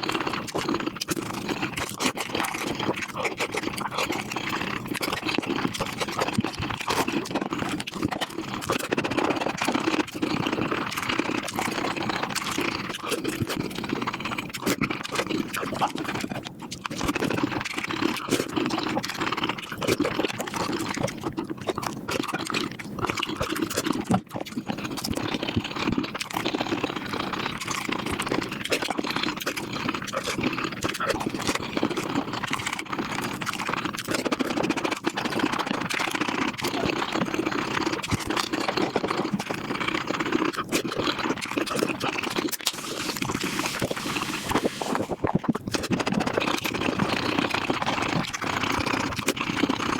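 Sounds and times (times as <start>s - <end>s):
sped-up chewing and crunching: 0.0s - 49.9s.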